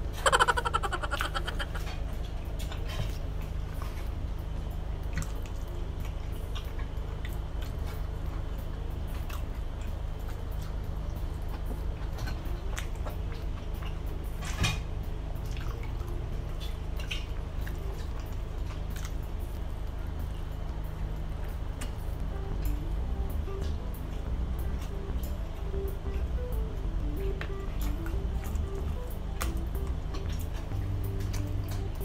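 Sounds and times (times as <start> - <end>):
chewing fries: 0.0 - 32.0
steady low hum: 0.0 - 32.0.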